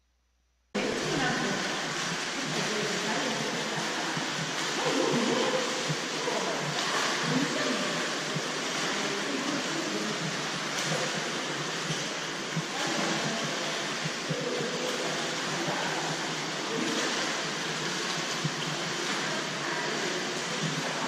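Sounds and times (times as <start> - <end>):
water splashing in a pool: 0.8 - 21.0.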